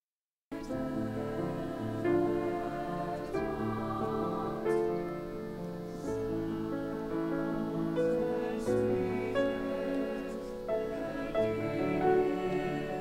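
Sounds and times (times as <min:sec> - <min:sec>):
mixed choir singing: 0:00.5 - 0:13.0.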